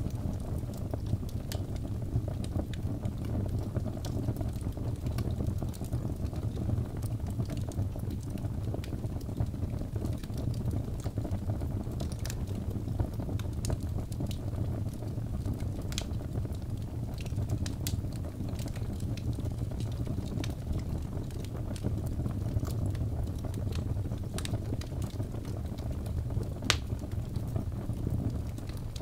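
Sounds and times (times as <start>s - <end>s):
logs burning with crackles: 0.0s - 29.0s.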